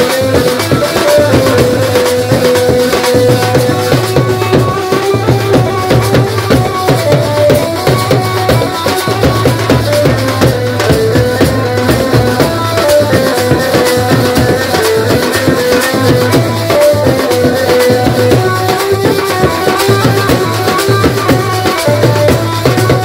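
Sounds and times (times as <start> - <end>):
band melody of held notes: 0.0 - 23.0
fast dense drumming: 0.0 - 23.0.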